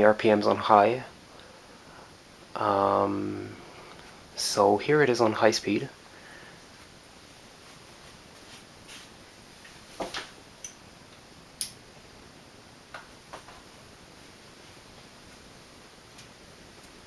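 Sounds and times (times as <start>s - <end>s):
ceiling fan air rush: 0.0s - 17.0s.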